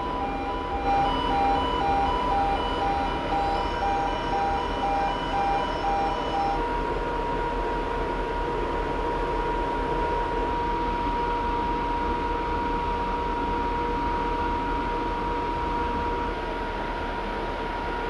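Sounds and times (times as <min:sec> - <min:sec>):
machinery with high whine: 0:00.0 - 0:18.0.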